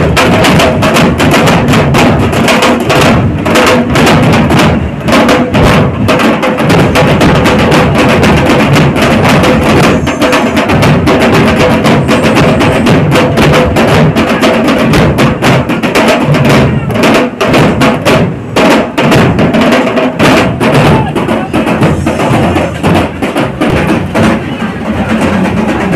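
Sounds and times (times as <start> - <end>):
group drumming: 0.0 - 25.9.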